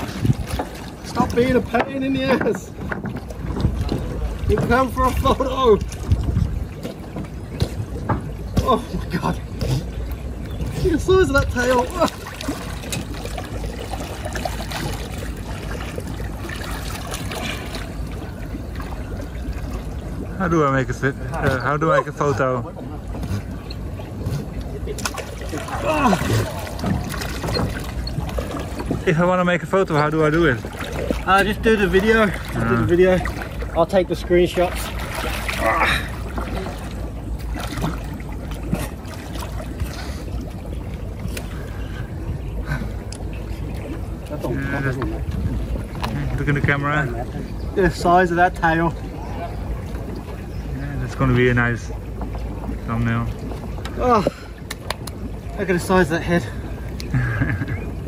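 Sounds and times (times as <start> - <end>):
water splashing and lapping: 0.0 - 58.0.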